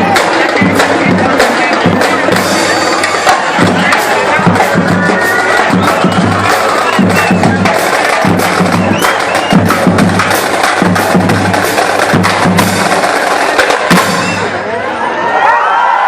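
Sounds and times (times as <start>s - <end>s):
pitched bass drum notes: 0.0s - 14.7s.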